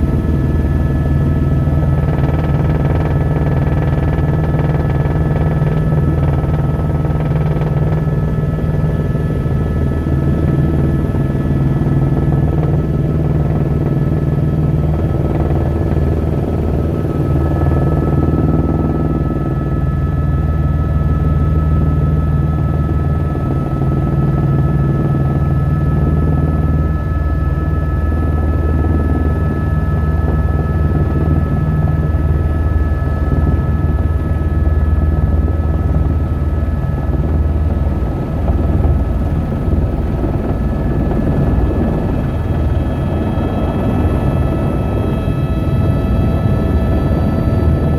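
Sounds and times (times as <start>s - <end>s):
helicopter engine drone and whine: 0.0s - 47.9s.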